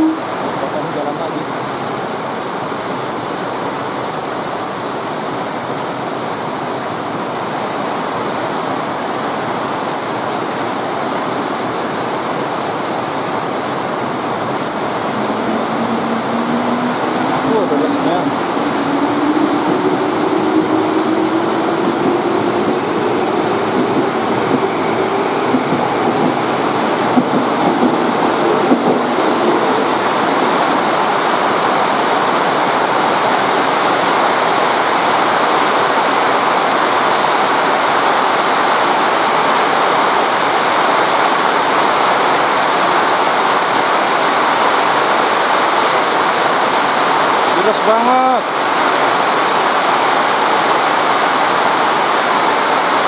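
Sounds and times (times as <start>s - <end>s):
faint electric train whine: 0.0s - 1.4s, 10.6s - 53.0s
heavy rain hissing: 0.0s - 53.0s.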